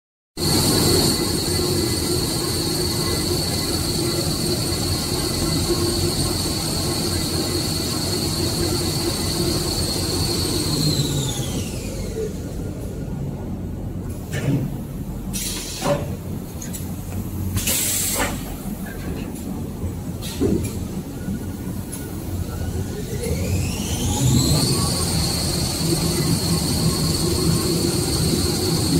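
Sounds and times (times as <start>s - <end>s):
machine whining and humming: 0.4s - 28.9s.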